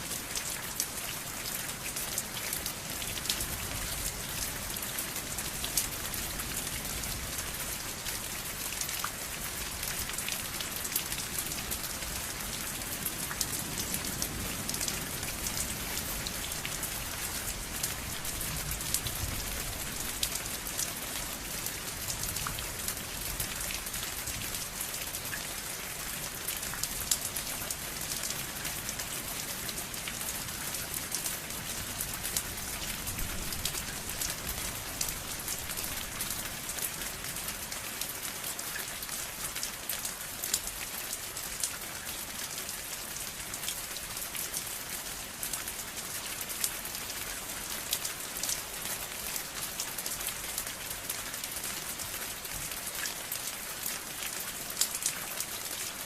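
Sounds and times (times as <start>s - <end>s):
raindrops ticking on a surface: 0.0s - 56.0s
steady rain hiss: 0.0s - 56.0s.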